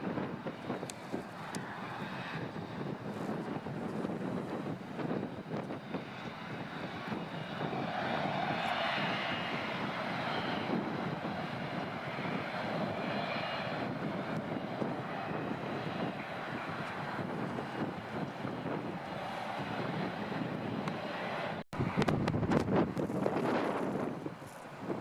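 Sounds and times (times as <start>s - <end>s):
airliner engines roaring: 0.0s - 25.0s.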